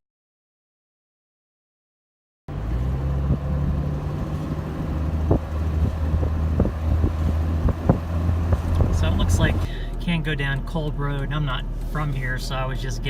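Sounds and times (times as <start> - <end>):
car engine and road rumble: 2.5 - 13.0.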